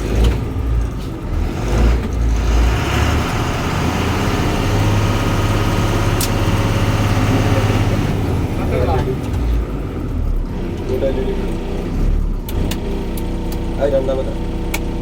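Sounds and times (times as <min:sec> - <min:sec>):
bus diesel engine starting: 0:00.0 - 0:15.0.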